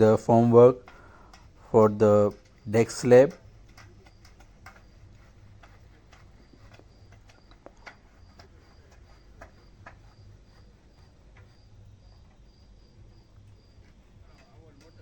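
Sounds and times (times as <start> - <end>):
light clicks and taps: 0.4 - 12.5, 13.1 - 15.0.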